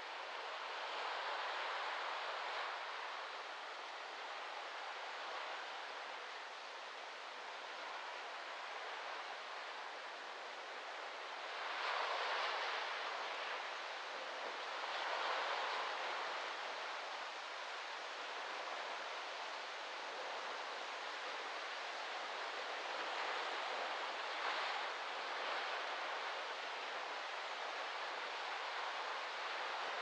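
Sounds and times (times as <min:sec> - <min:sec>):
small waves lapping on beach: 0:00.0 - 0:30.0
wind rustling palm fronds: 0:00.0 - 0:30.0.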